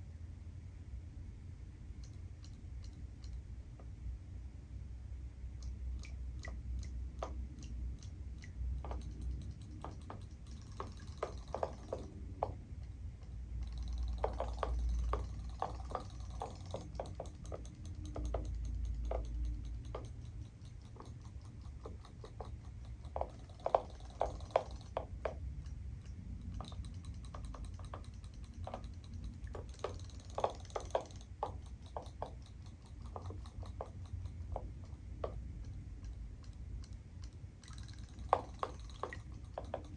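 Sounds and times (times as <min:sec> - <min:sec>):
faint water noise: 0:05.2 - 0:39.9
robotic toy clicking: 0:05.6 - 0:39.9.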